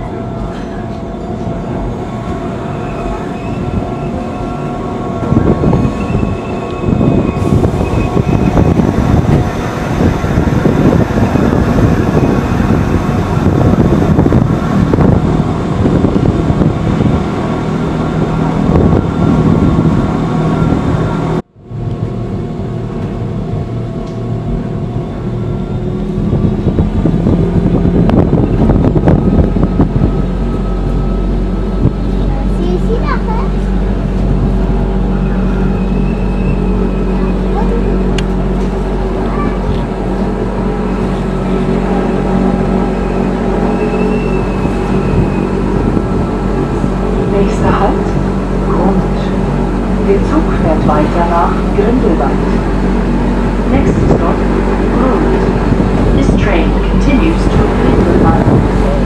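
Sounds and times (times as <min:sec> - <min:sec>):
train wheels rumbling on rail: 0:00.0 - 0:59.0
train whine: 0:00.0 - 0:59.0.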